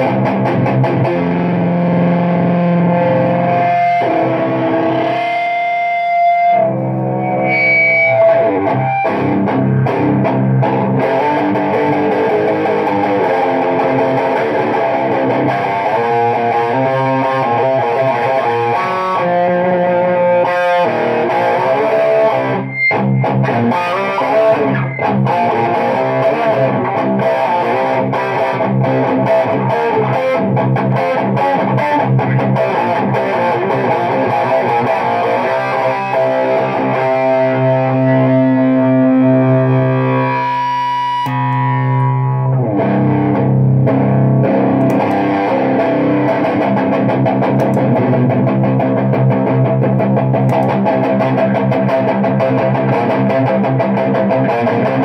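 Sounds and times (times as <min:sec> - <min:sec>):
electric guitar with fuzz distortion: 0:00.0 - 0:55.0.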